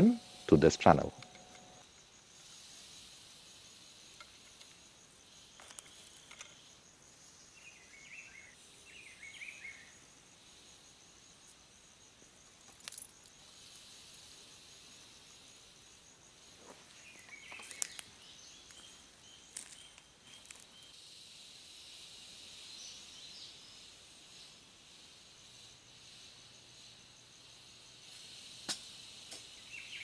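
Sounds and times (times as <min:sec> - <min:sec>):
pulsing high insect trill: 0:00.0 - 0:30.0.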